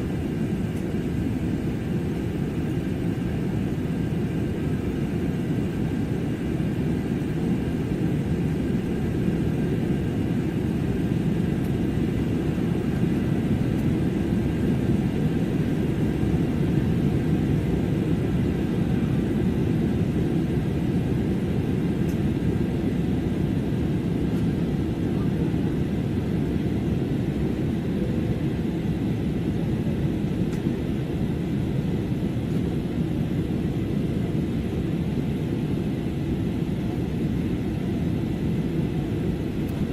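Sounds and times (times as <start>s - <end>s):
low rumble of engine and airflow: 0.0s - 39.9s.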